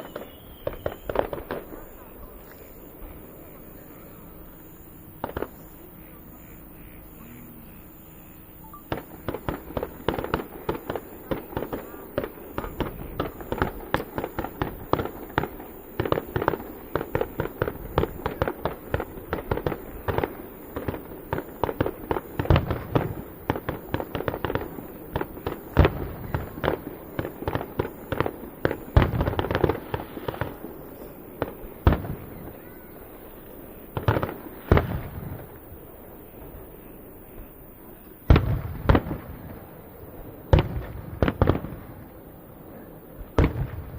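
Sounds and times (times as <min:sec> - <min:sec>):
fireworks cracks and booms: 0:00.0 - 0:05.9, 0:08.8 - 0:43.9.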